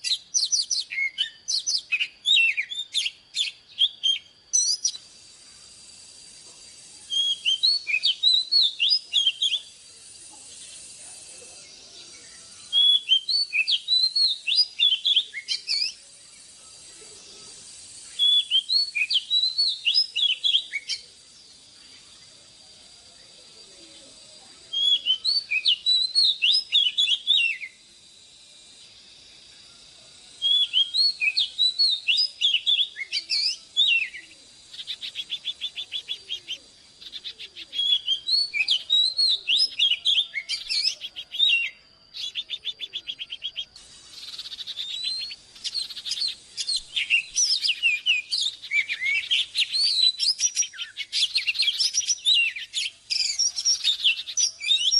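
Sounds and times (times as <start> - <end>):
bird singing whistled phrases: 0.0 - 5.1, 6.8 - 9.8, 11.6 - 16.1, 17.9 - 21.2, 24.2 - 27.8, 30.4 - 54.9.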